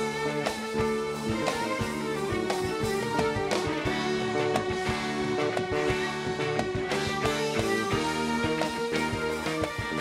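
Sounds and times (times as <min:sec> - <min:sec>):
live band music: 0:00.0 - 0:10.0.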